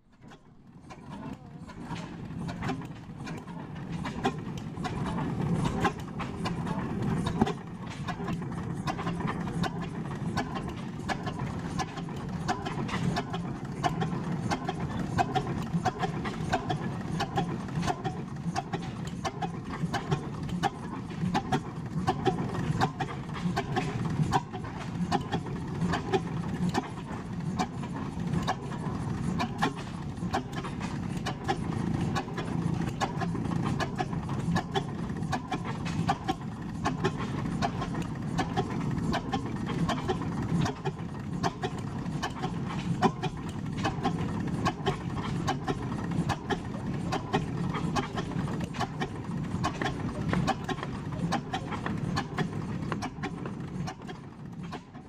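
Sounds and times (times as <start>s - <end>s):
stationary gas engine running: 0.1s - 55.0s.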